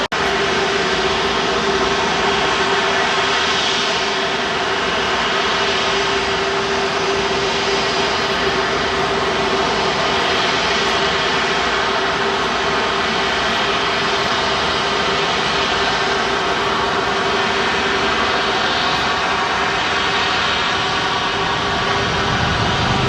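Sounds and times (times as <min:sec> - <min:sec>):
jet engines running close by: 0:00.0 - 0:23.0.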